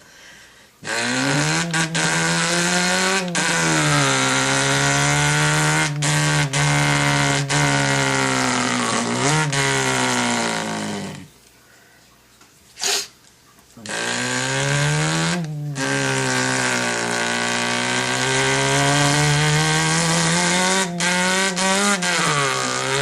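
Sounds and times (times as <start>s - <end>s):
man imitating an engine: 0.8s - 11.3s, 13.8s - 23.0s.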